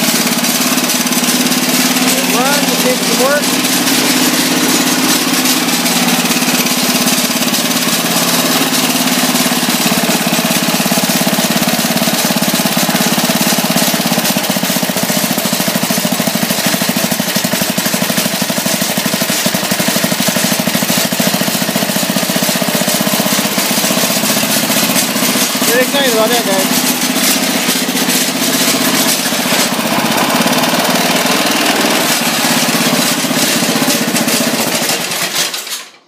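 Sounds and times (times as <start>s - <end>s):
small engine running: 0.0s - 36.0s.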